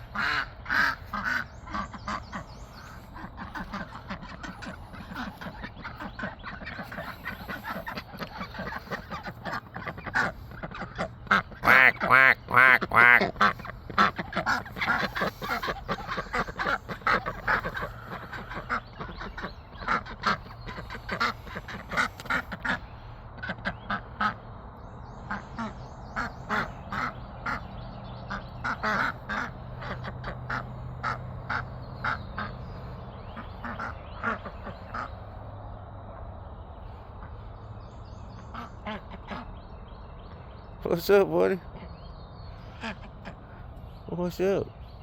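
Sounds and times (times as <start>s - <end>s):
ducks quacking: 0.0s - 44.8s
faint low hum: 0.0s - 45.0s.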